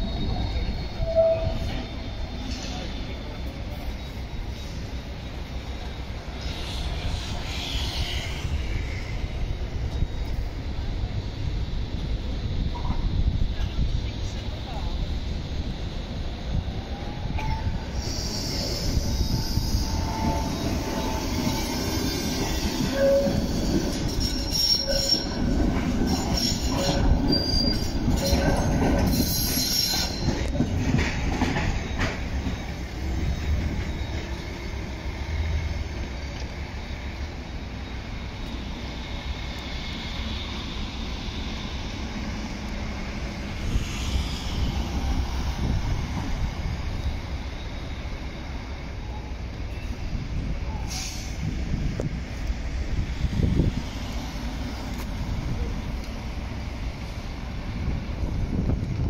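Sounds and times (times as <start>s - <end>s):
rumble of wheels on rail: 0.0s - 59.0s
tram wheels squealing: 0.0s - 59.0s.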